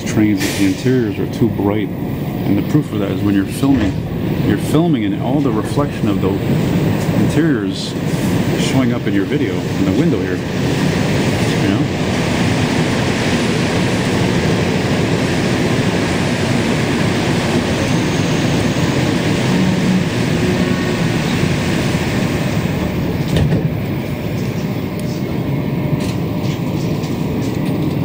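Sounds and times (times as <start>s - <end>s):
train rumbling through tunnel: 0.0s - 28.0s.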